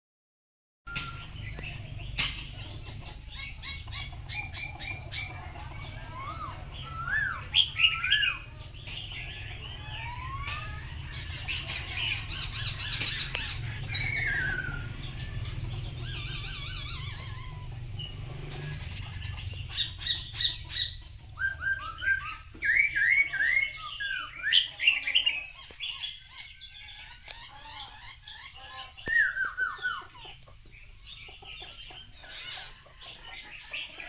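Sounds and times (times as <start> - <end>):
songbirds singing: 0.9 - 34.0.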